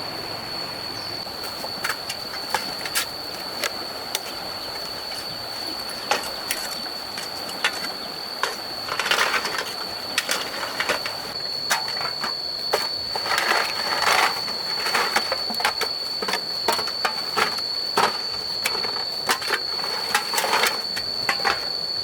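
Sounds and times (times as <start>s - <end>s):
steady high-pitched tone: 0.0s - 22.0s.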